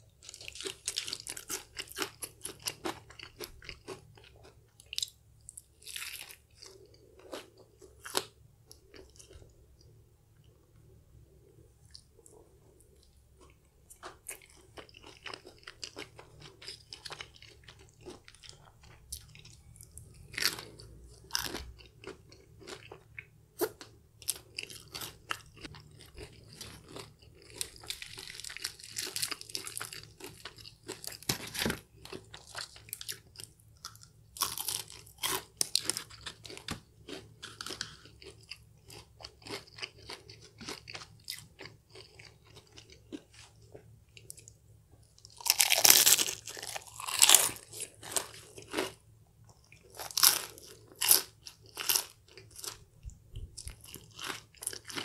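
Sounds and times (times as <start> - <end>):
chewing and crunching fried chicken: 0.0 - 10.6, 11.4 - 55.0.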